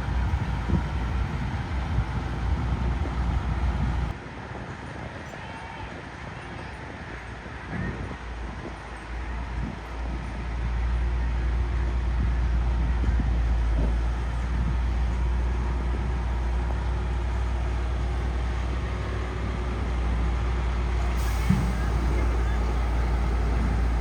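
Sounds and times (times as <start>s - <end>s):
diesel earthmoving machinery running: 0.0s - 4.2s, 7.7s - 24.0s.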